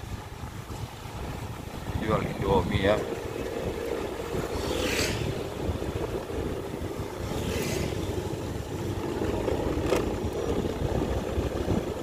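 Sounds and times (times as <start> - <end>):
road and wind rumble: 0.0 - 12.0
motorcycle engine running: 0.2 - 12.0.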